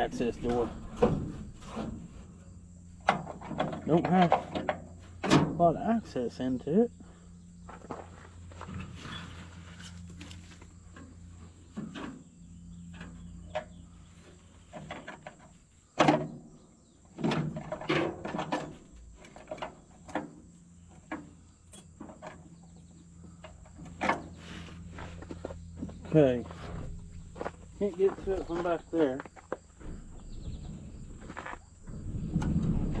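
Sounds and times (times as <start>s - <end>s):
metal clanks and rattles: 0.0s - 6.5s, 7.5s - 33.0s
steady low hum: 0.0s - 33.0s.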